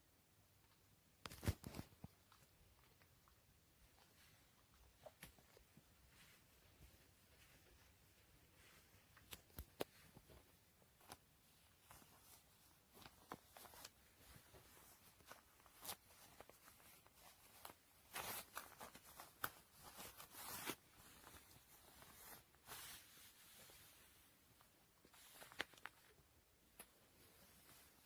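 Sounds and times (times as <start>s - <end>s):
faint rustling and scraping: 1.2s - 28.0s.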